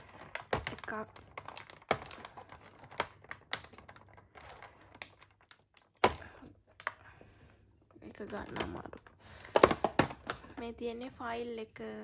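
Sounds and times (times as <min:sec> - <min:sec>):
plastic items clicking: 0:00.0 - 0:07.1, 0:07.9 - 0:10.6.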